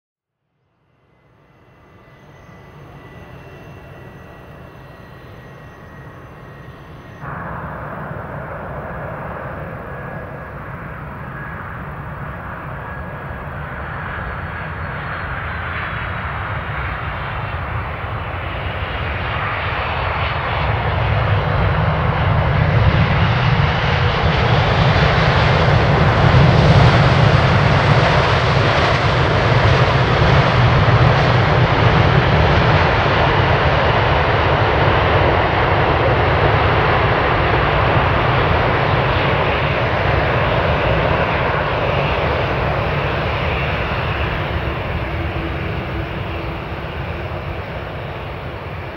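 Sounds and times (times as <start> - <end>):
jetliner engine roar: 0.8 - 48.9.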